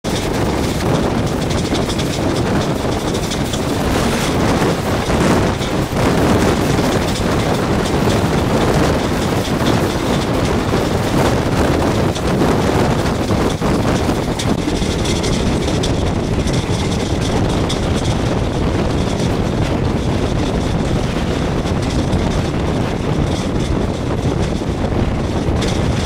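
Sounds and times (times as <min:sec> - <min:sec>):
train wheels on rails: 0:00.0 - 0:26.0
wind on microphone: 0:00.0 - 0:26.0
train passing close: 0:00.1 - 0:26.0.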